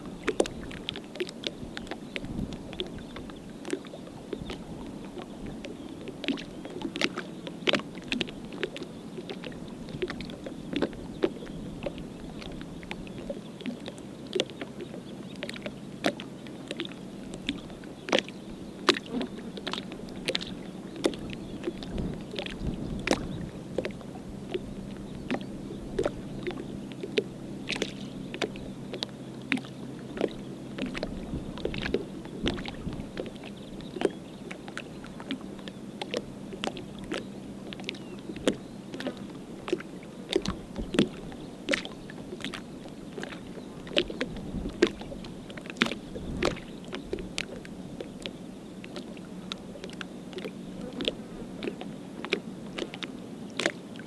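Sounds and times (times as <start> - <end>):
faint low hum: 0.0 - 54.0
small clicks and splashes: 0.0 - 54.0
water lapping at shore: 0.0 - 54.0.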